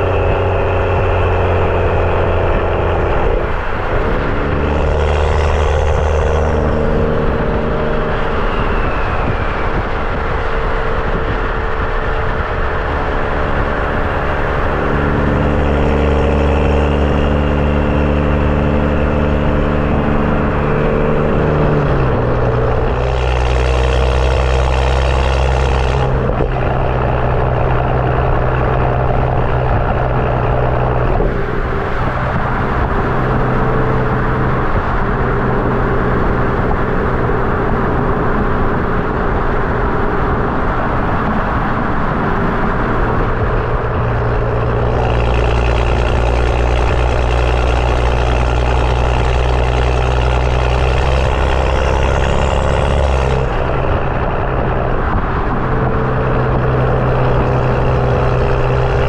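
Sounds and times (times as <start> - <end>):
loud low exhaust drone: 0.0 - 59.0.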